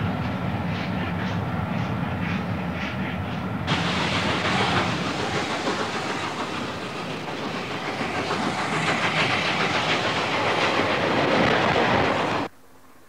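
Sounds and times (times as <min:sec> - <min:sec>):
train rushing: 0:00.0 - 0:12.5.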